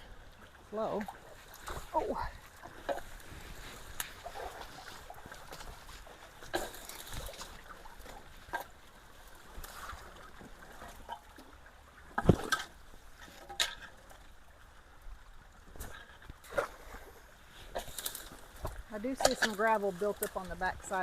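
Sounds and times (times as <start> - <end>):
water trickling through culvert: 0.0 - 21.0
sharp splashes and knocks: 1.0 - 14.3, 15.6 - 20.8.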